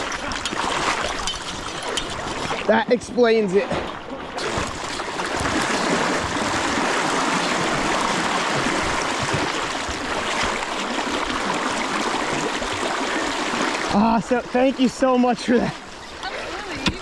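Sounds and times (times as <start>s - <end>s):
river rushing and splashing: 0.0s - 17.0s.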